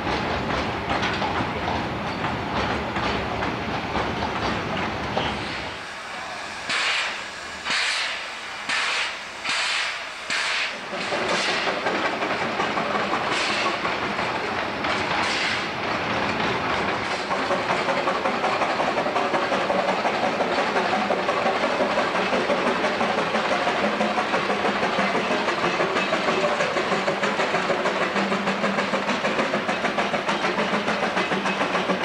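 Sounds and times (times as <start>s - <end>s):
steam locomotive chuffing: 0.0s - 32.0s
train wagons rumbling over rails: 0.0s - 32.0s.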